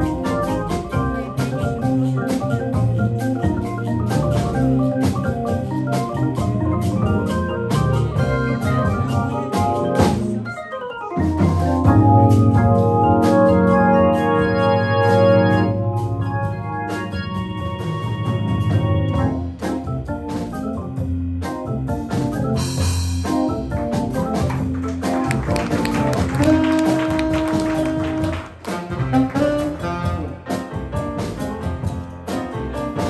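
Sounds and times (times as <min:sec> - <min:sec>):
electronic organ: 0:00.0 - 0:30.1
jazz band playing: 0:00.0 - 0:33.0.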